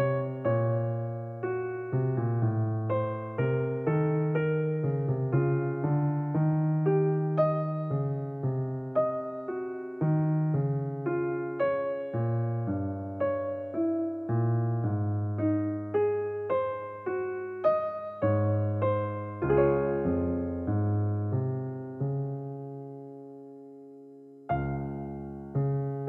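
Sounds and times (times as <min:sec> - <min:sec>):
solo piano piece: 0:00.0 - 0:26.0.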